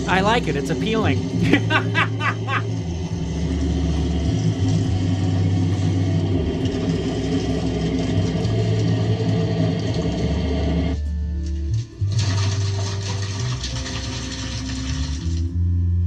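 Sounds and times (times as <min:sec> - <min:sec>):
motor running with low rumble: 0:00.0 - 0:16.0.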